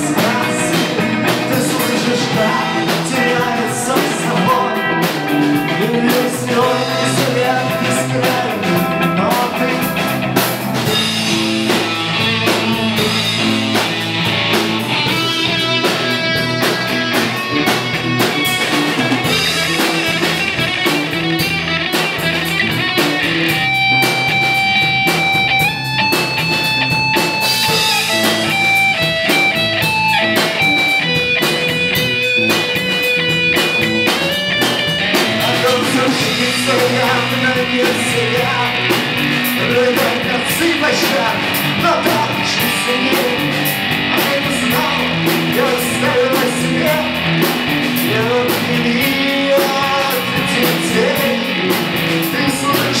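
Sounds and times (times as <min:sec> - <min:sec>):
drum kit: 0:00.0 - 0:53.0
electric guitar: 0:00.0 - 0:53.0.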